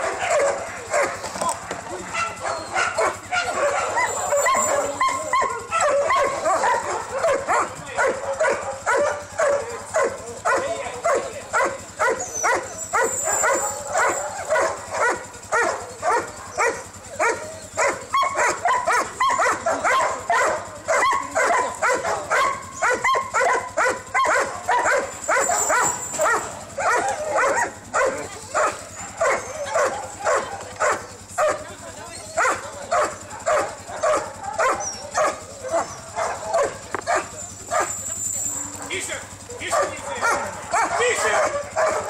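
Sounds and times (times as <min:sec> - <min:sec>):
huskies barking and yelping: 0:00.0 - 0:42.0.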